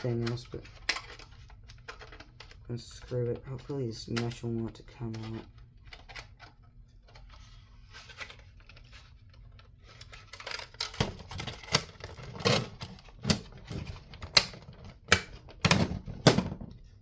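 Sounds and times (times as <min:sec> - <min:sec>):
plastic and metal parts clicking: 0:00.0 - 0:17.0.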